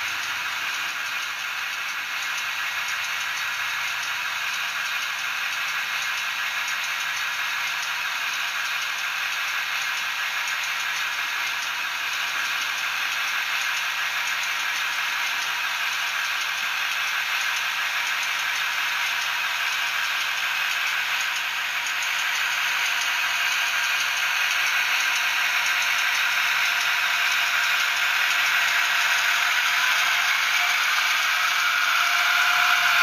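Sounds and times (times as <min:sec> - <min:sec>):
model train diesel engine sound: 0:00.0 - 0:33.0.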